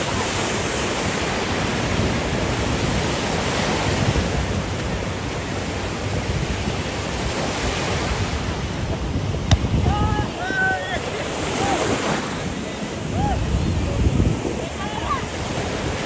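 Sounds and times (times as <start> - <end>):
sea surf breaking: 0.0 - 16.0
wind rumbling on microphone: 0.0 - 16.0.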